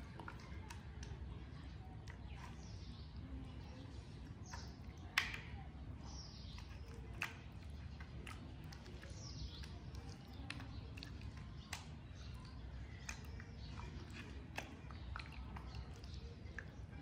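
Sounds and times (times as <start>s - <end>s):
hands squelching wet paste: 0.0s - 17.0s.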